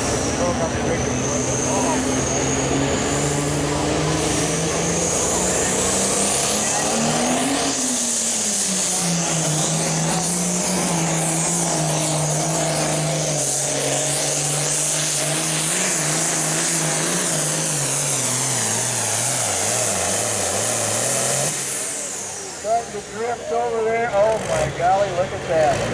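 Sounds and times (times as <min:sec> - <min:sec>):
diesel tractor engine under load: 0:00.0 - 0:25.9.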